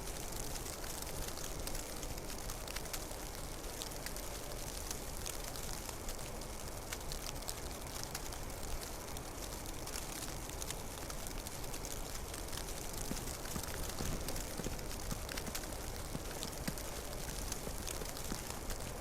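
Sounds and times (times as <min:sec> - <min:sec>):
falling snow hiss with ticks: 0:00.0 - 0:19.0.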